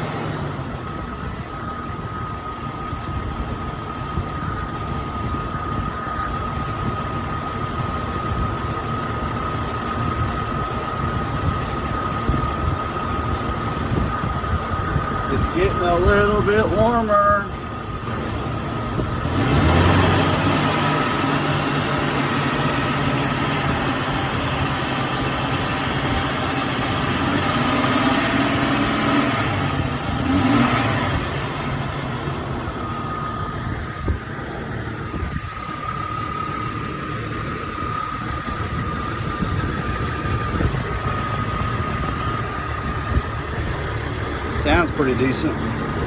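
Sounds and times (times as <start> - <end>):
car engine idling: 0.0 - 46.0
steady high whine: 0.0 - 46.0.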